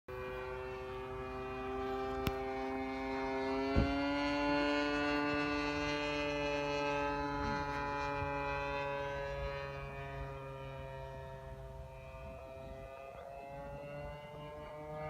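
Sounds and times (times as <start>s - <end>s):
model plane engine running: 0.1s - 15.0s.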